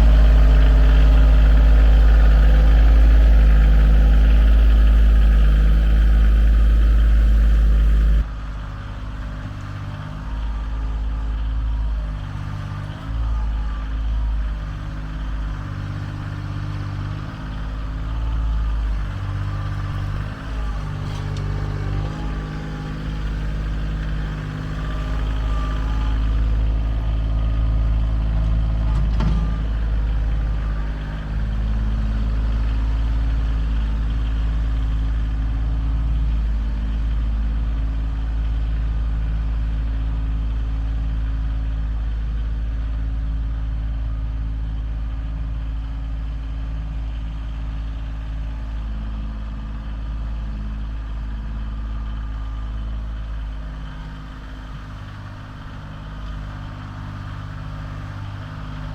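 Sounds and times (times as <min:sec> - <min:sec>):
large engine droning: 0:00.0 - 0:58.9.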